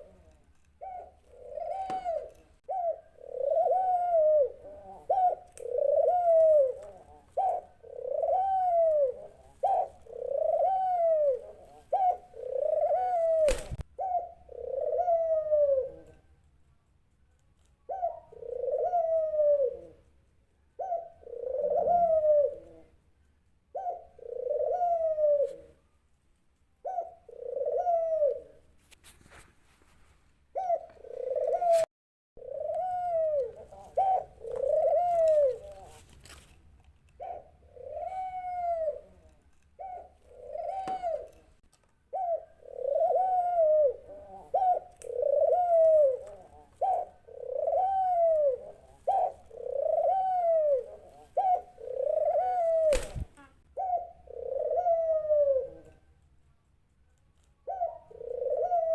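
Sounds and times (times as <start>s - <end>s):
dove cooing: 0.0s - 16.3s, 17.8s - 20.2s, 20.8s - 23.0s, 23.7s - 25.8s, 26.8s - 28.7s, 30.5s - 36.5s, 37.1s - 56.1s, 57.6s - 58.9s.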